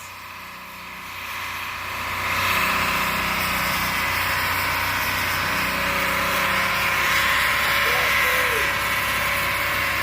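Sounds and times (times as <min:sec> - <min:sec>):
tyres screeching on pavement: 0:00.0 - 0:10.0
engine revving high: 0:01.0 - 0:10.0.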